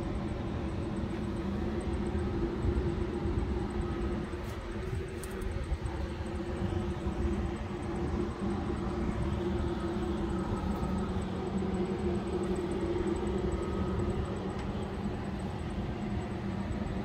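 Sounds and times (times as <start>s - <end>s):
faint steady hum: 0.0s - 17.0s
low engine rumble: 0.0s - 17.0s.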